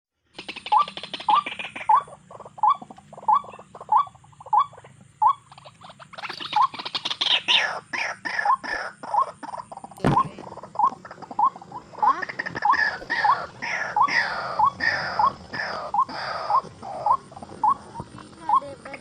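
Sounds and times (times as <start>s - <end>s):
fast chattering bird calls: 0.2s - 19.0s
bird rising chirp: 0.4s - 19.0s.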